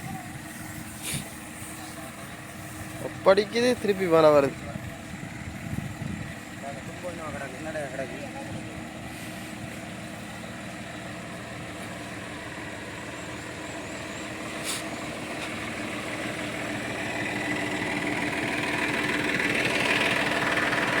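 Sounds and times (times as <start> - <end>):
harvester engine running: 0.0 - 21.0.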